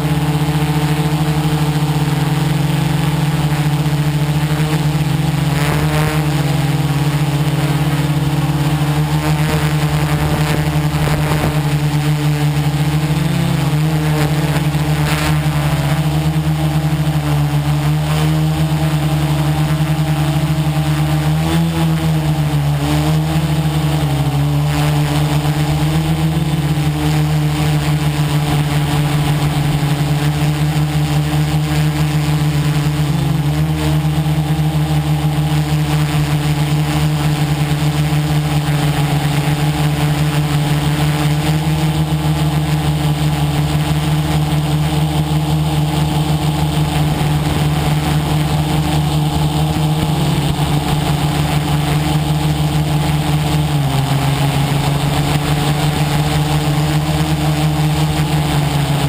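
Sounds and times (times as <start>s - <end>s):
quadcopter motors buzzing: 0.0s - 59.0s.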